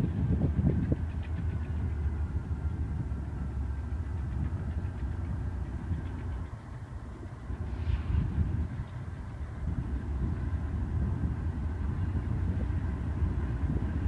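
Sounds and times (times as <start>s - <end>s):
freight train engine rumble: 0.0s - 14.0s.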